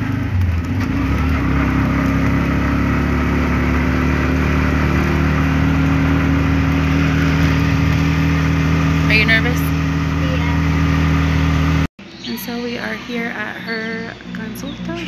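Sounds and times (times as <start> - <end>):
motorcycle taxi engine running: 0.0 - 15.0.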